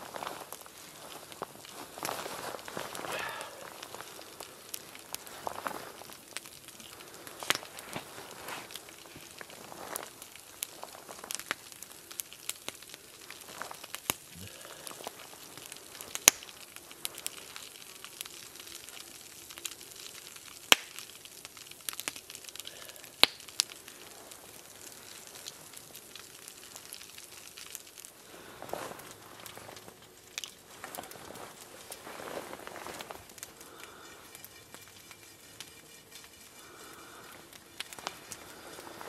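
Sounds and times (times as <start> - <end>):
sharp fire pops: 0.0 - 34.5
campfire crackling: 0.0 - 39.0.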